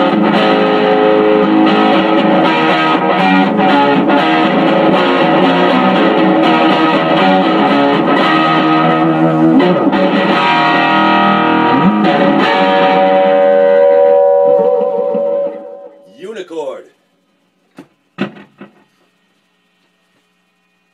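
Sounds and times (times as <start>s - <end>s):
distorted electric guitar: 0.0s - 16.2s, 18.1s - 19.6s.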